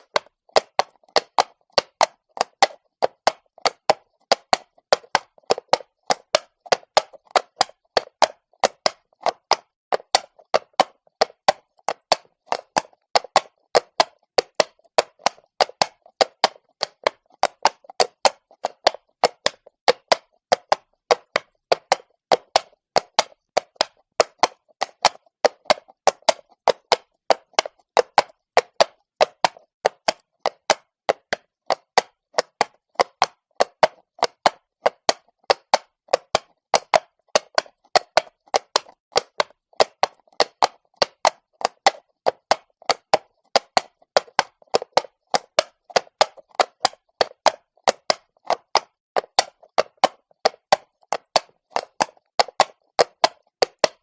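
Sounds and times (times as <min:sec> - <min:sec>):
horse hooves on stone: 0:00.0 - 0:54.0.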